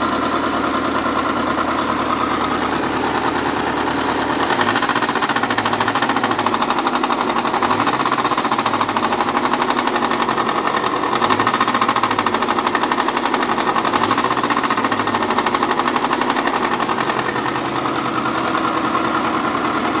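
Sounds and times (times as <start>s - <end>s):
engine running with rapid knock: 0.0s - 20.0s.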